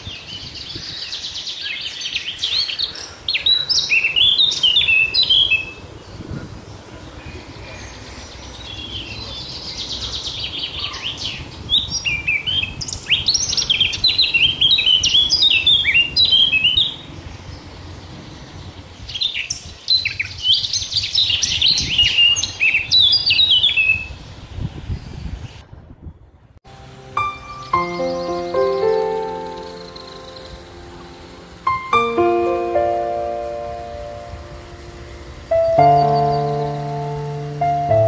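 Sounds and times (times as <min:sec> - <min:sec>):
songbird singing: 0:00.0 - 0:25.6, 0:26.7 - 0:38.0.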